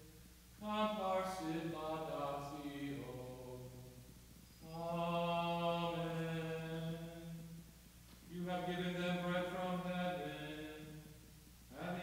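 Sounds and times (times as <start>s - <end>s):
man chanting a hymn: 0.0s - 4.0s, 4.6s - 12.0s.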